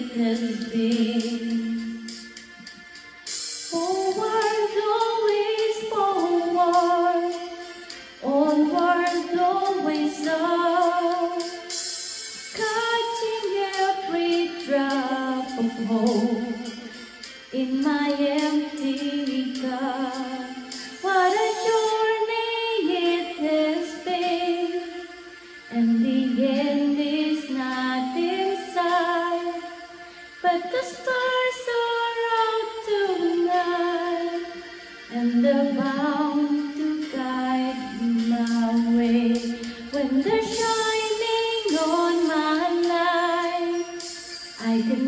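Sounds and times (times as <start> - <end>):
woman singing into a microphone: 0.0 - 2.0, 3.7 - 7.5, 8.2 - 11.6, 12.6 - 16.8, 17.5 - 25.0, 25.7 - 29.7, 30.4 - 44.0, 44.6 - 45.0.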